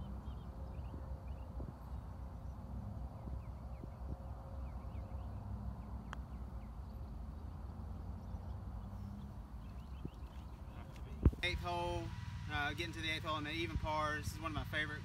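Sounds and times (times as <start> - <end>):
birds chirping faintly: 0.0 - 12.4
steady low rumble: 0.0 - 15.0.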